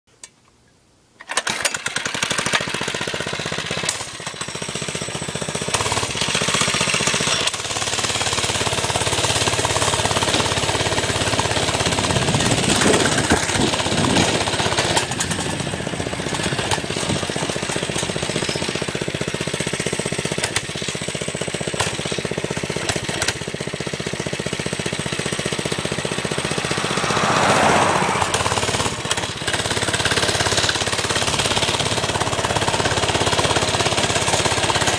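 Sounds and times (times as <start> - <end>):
mini bike engine droning: 1.3 - 34.9.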